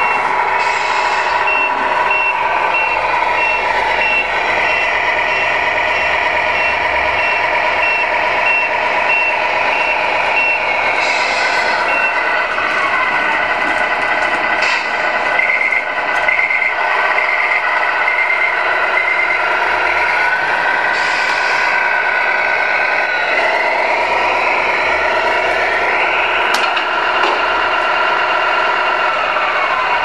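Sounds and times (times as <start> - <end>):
truck engine sound from small speaker: 0.0 - 30.0.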